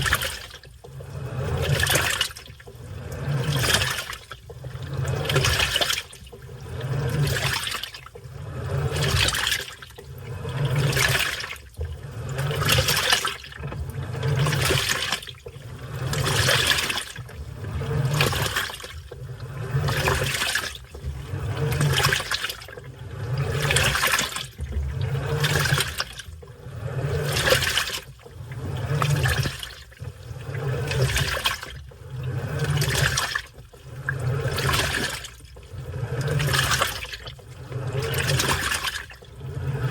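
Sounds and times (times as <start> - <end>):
washing machine motor hum: 0.0 - 39.9
water sloshing in washing machine: 0.0 - 39.9.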